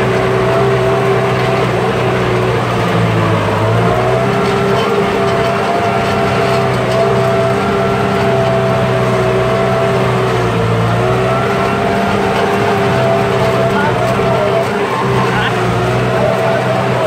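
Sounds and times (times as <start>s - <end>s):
steady whine: 0.0s - 17.0s
tractor engine droning: 0.0s - 17.0s.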